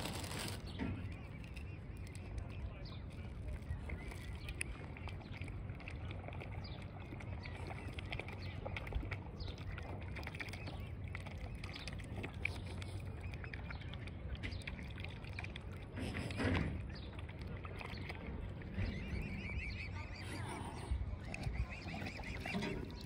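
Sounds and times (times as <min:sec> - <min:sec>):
birds chirping and peeping: 0:00.0 - 0:23.0.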